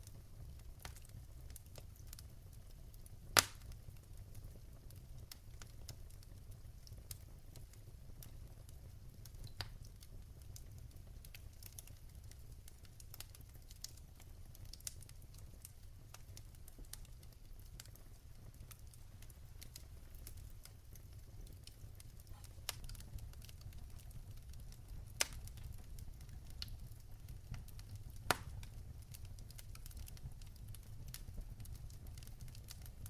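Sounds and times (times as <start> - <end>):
low rumble of fire: 0.0 - 33.0
fire pops and clicks: 0.1 - 2.3, 3.3 - 33.0.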